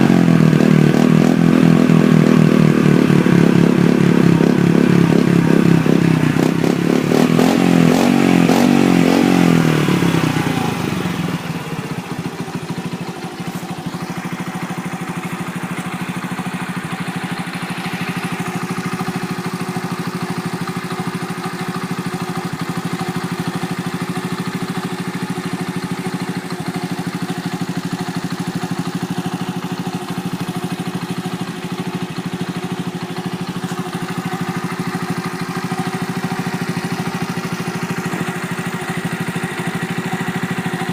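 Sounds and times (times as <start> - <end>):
small motorcycle engine idling: 0.0 - 40.9.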